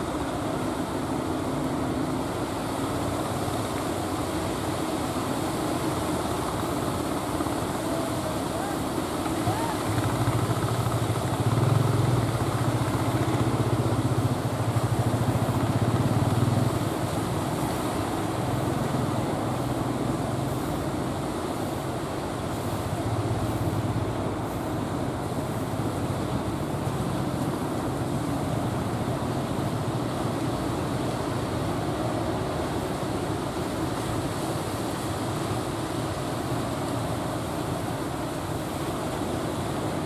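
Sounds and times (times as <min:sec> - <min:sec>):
boat engine running: 0:00.1 - 0:33.1.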